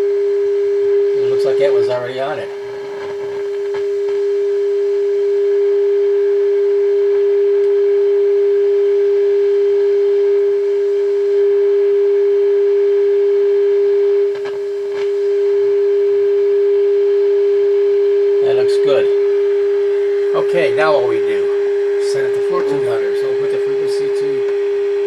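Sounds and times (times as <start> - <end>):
steady test tone through radio speaker: 0.0 - 25.0.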